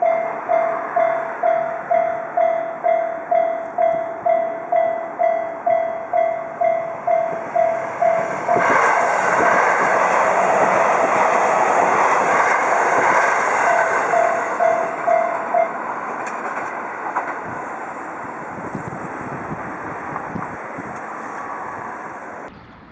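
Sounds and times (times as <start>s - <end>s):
railroad crossing bell dinging: 0.0s - 22.5s
train passing: 0.0s - 22.9s.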